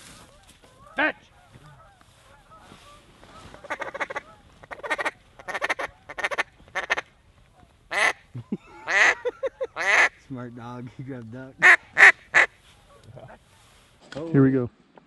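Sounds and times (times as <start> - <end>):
waterfowl quacking and honking: 0.0 - 10.3, 11.5 - 13.8.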